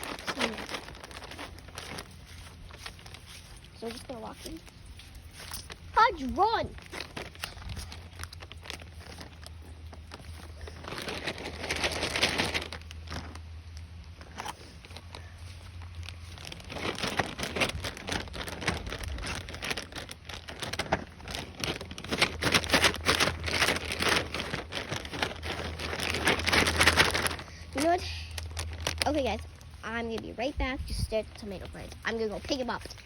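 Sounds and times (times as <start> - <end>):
crinkling rustle: 0.0 - 33.0.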